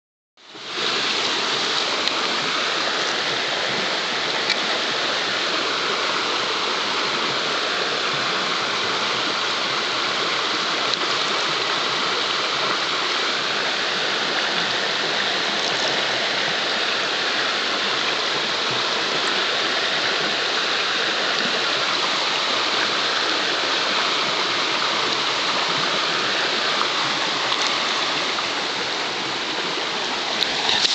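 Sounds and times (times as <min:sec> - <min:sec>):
stream running over stones: 0:00.4 - 0:30.9.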